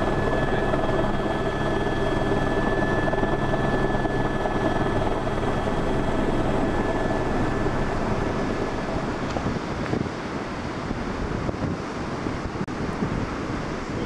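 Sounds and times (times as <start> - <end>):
helicopter rotor hum: 0.0 - 14.0
wind on microphone: 0.0 - 14.0.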